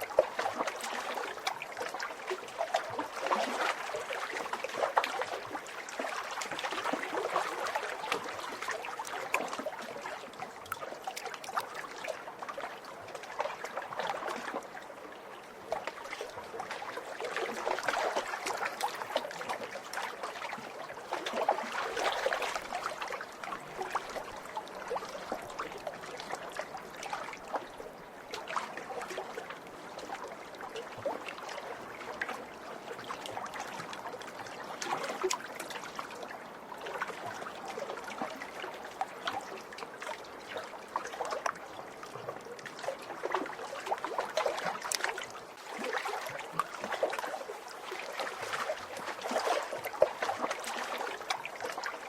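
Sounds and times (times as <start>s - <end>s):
small waves lapping on shore: 0.0s - 52.0s.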